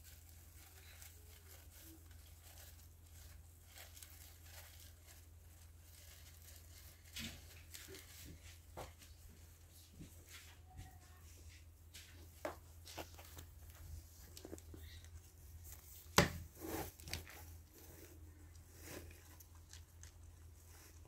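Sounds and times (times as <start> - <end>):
hamsters scurrying on bedding: 0.0 - 21.0.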